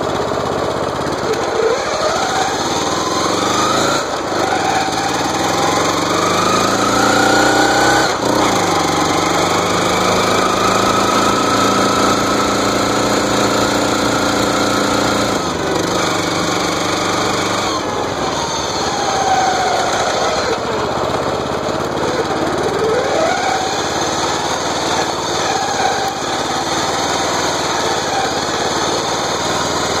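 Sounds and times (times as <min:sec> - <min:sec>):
riding lawn mower engine: 0:00.0 - 0:30.0.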